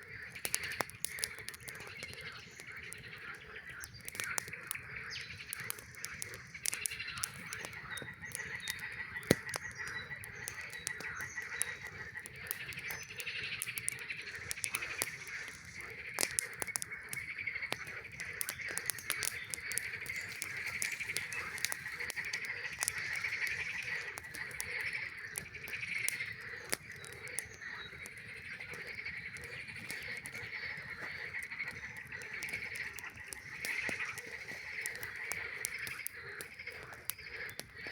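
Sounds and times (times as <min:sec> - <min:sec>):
campfire crackling: 0:00.0 - 0:37.9
frogs chorus calling: 0:00.0 - 0:37.9.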